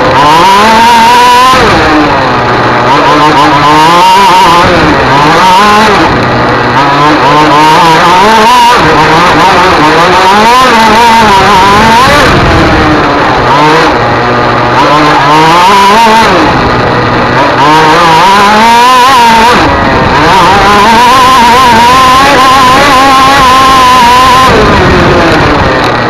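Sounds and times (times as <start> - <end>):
racing engine at full load: 0.0 - 26.0.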